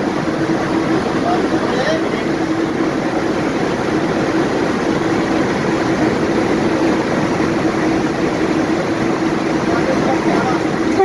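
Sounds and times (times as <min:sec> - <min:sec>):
train running noise from inside coach: 0:00.0 - 0:11.0.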